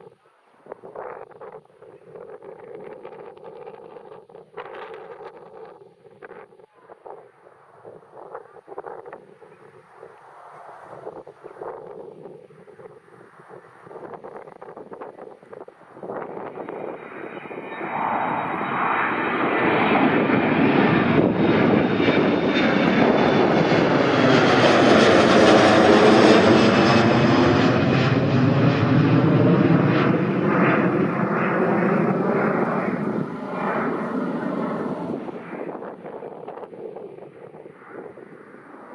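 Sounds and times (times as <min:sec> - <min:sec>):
airliner engine rush: 0:00.6 - 0:38.9.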